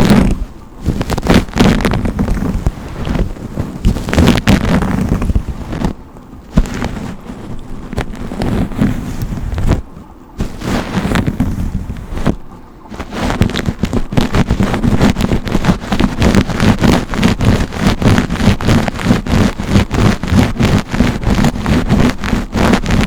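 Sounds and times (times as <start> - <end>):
brush strokes scratching: 0.0 - 9.8, 10.4 - 23.0.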